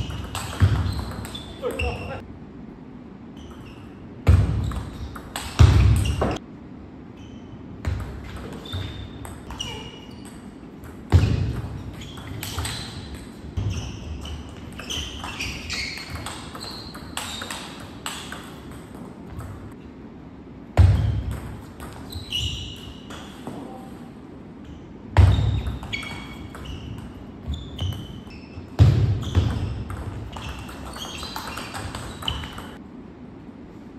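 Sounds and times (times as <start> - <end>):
sneakers squeaking on floor: 0.0 - 2.2, 3.3 - 6.4, 7.1 - 19.8, 20.8 - 32.8.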